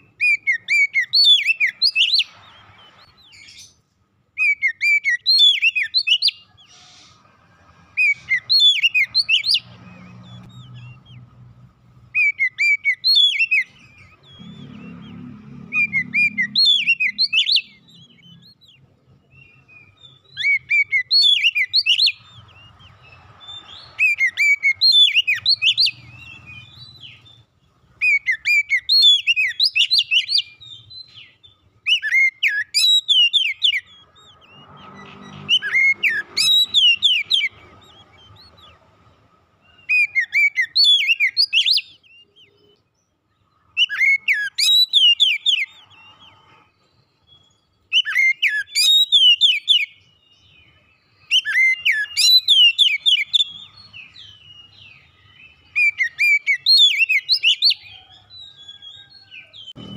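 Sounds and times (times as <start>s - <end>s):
bird singing whistled phrases: 0.0s - 3.8s, 4.4s - 6.6s, 8.0s - 11.2s, 12.1s - 22.7s, 23.4s - 27.4s, 28.0s - 38.8s, 39.7s - 42.8s, 43.6s - 46.2s, 47.4s - 59.9s.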